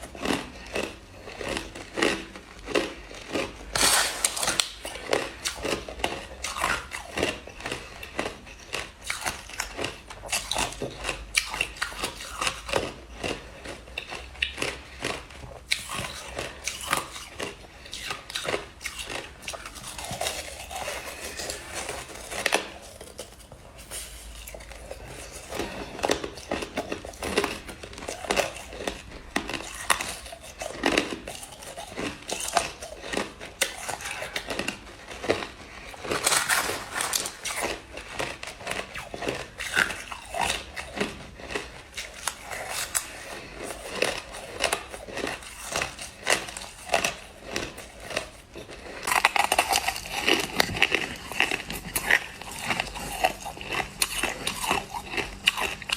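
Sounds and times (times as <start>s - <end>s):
crushed ice being chewed: 0.0s - 55.9s.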